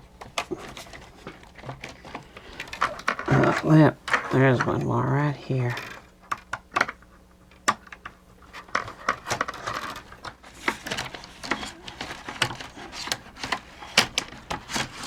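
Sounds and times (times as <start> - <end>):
plastic parts clicking and scraping: 0.0 - 4.8, 5.7 - 15.0.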